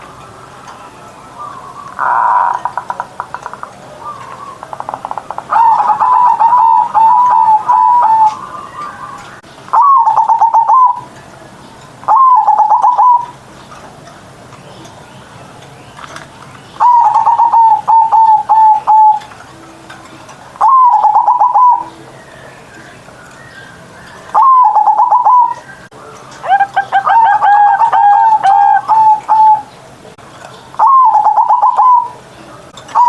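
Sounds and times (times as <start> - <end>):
dove singing staccato notes and coos: 0.0 - 33.0.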